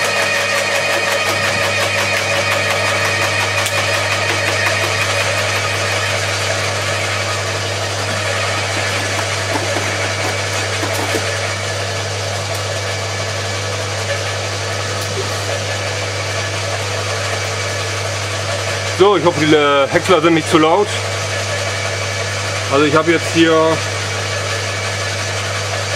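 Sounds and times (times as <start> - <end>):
garden shredder motor hum: 0.0 - 25.9.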